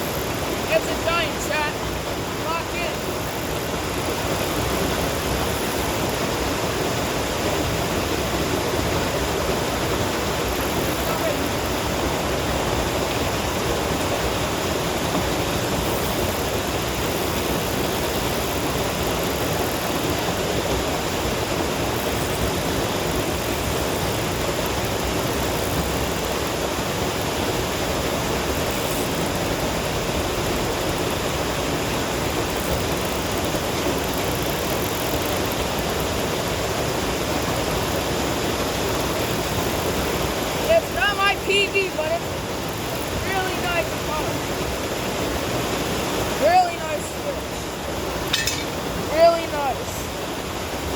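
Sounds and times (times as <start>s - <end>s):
water pouring over spillway: 0.0s - 50.9s.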